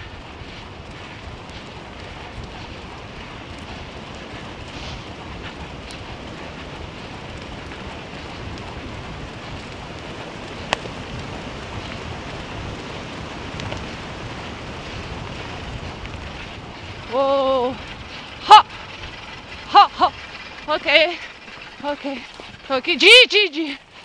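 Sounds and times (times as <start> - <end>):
tyres rumbling on gravel: 0.0 - 24.0
wind on microphone: 0.0 - 24.0.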